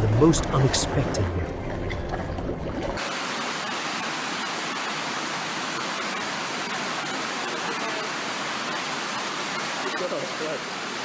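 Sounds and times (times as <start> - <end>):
fast-moving water rushing: 0.0 - 11.0.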